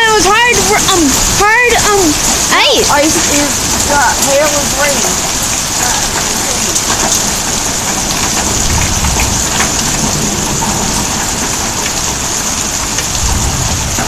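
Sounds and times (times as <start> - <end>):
heavy rain with hail: 0.0 - 14.0
sharp hail ticks: 0.0 - 14.0.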